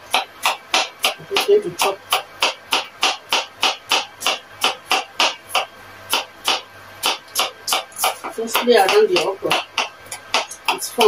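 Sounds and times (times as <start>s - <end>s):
knife chopping on cutting board: 0.0s - 11.0s.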